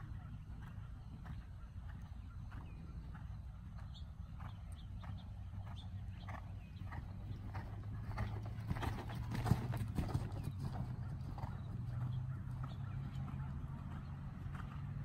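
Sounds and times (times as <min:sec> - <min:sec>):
horse hooves trotting on sand: 0:00.0 - 0:15.0.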